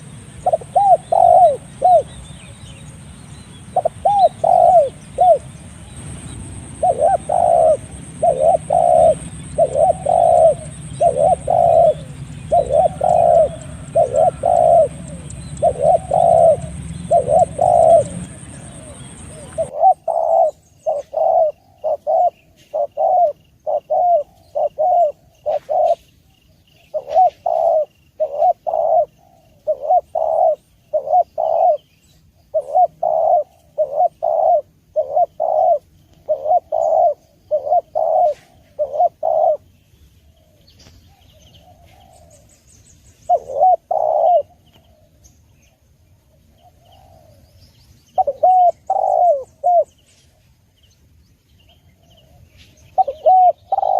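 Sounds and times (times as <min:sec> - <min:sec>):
dove cooing: 0:00.0 - 0:02.8, 0:03.6 - 0:39.7, 0:40.3 - 0:42.6, 0:43.2 - 0:47.5, 0:48.1 - 0:50.5, 0:51.8 - 0:53.9.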